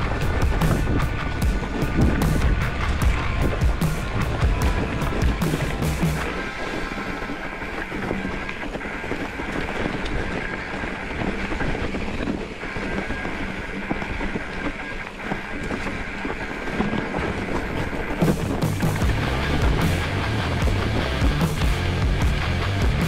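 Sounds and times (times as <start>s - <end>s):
steady rumbling: 0.0s - 23.0s
wind on microphone: 0.0s - 23.0s.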